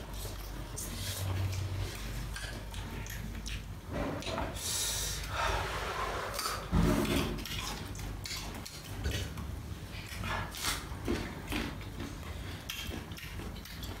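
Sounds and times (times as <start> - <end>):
chewing and crunching vegetables: 0.0 - 5.4, 6.2 - 14.0
wet mouth noises: 0.1 - 5.4, 6.2 - 14.0.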